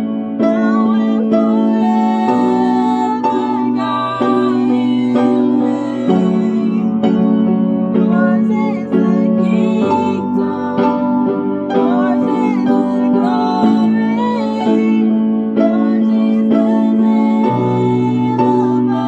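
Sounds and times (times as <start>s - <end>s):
piano chords: 0.0s - 19.0s
voices singing: 0.4s - 19.0s.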